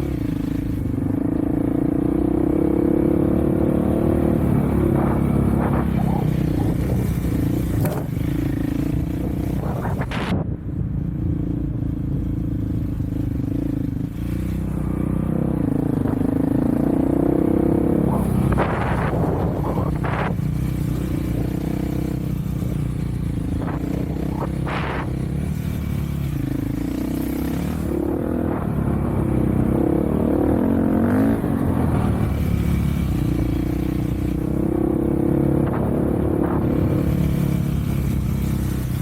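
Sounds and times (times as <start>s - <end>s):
off-road vehicle engine revving: 0.0s - 10.4s, 13.6s - 39.0s.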